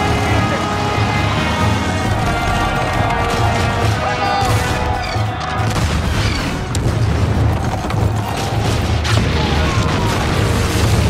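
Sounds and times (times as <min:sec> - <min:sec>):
film score music: 0:00.0 - 0:11.0.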